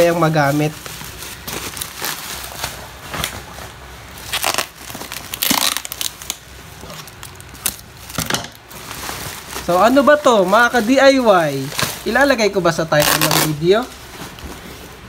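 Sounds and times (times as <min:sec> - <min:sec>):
packing tape peeling from cardboard: 0:00.0 - 0:10.0, 0:10.8 - 0:14.7
bubble wrap crinkling: 0:00.0 - 0:15.0.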